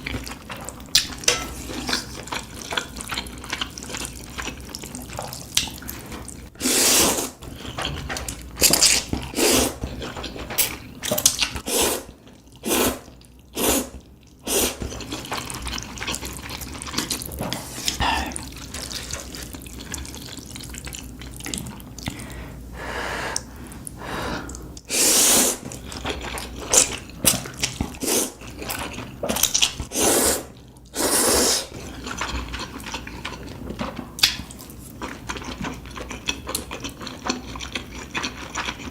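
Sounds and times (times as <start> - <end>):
wet chewing and mouth noises: 0.0 - 6.5, 7.4 - 22.4, 25.6 - 38.9.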